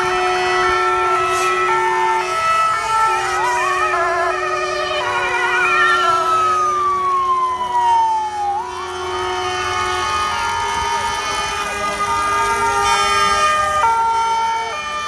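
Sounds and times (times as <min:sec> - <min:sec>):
emergency sirens warbling: 0:00.0 - 0:15.0
siren wail falling in pitch: 0:00.0 - 0:15.0.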